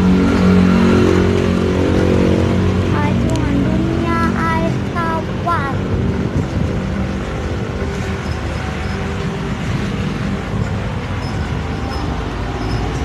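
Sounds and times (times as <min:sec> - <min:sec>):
vehicle travel rumble: 0:00.0 - 0:13.0.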